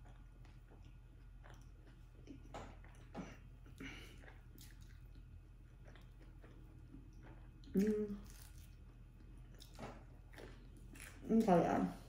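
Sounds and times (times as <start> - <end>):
wet chewing sounds: 0.0 - 11.8
low steady hum: 0.0 - 12.0.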